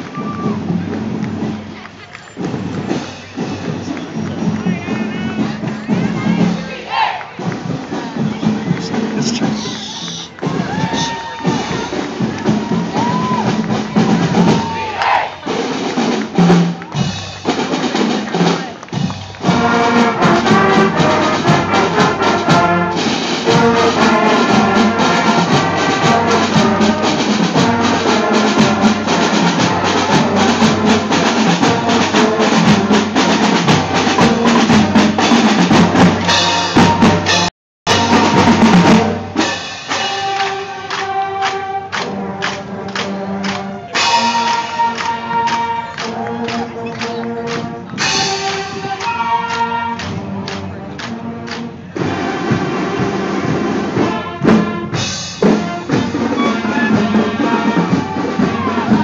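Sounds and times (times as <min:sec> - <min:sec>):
held wind notes: 0:00.0 - 0:59.0
marching band playing: 0:00.0 - 0:59.0.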